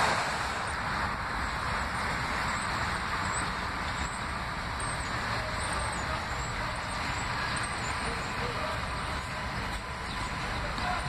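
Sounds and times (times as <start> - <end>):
subway train on elevated steel track: 0.0 - 11.0
wind buffeting microphone: 0.0 - 11.0.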